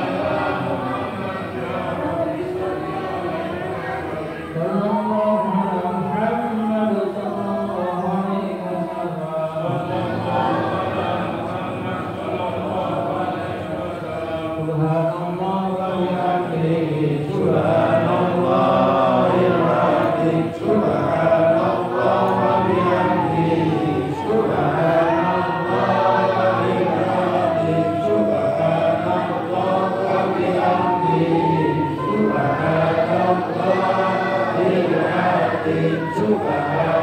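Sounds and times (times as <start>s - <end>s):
men chanting in unison: 0.0s - 37.0s.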